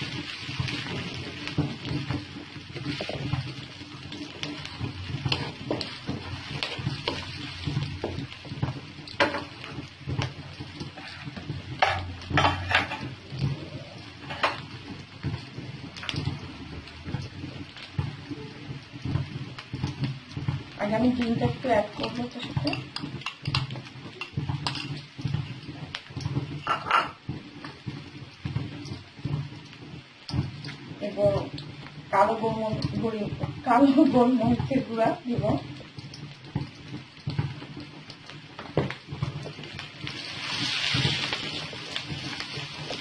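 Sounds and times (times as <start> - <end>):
spatula scraping and knocking pan: 0.0 - 18.3, 19.0 - 43.0
onions sizzling in a frying pan: 0.0 - 43.0.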